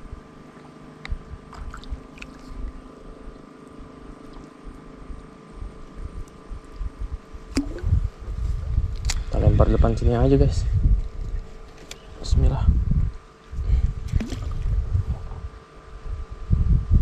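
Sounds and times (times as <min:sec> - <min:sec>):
steady motor hum: 0:00.0 - 0:17.0
wind rumbling on microphone: 0:01.0 - 0:17.0.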